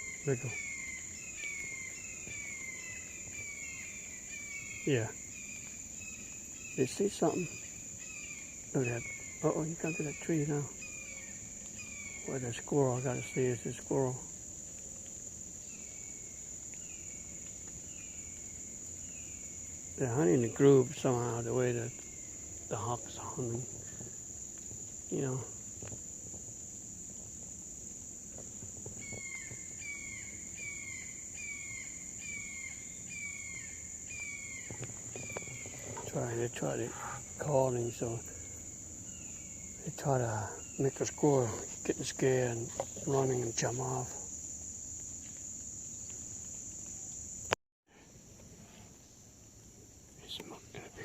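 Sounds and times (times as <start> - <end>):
high insect drone: 0.0 - 51.0.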